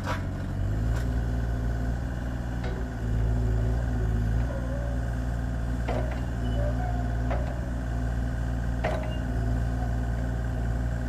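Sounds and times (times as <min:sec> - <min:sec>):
diesel excavator engine running: 0:00.0 - 0:11.0.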